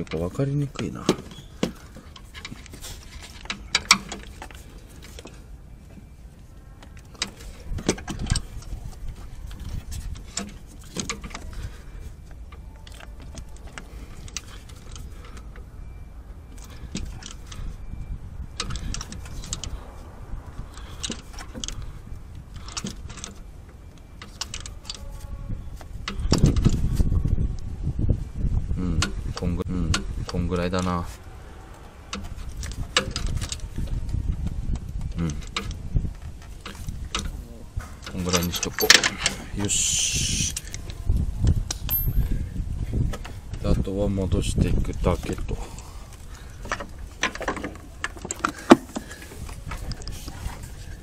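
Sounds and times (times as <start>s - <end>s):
low rumble of handling noise: 0.0s - 51.0s.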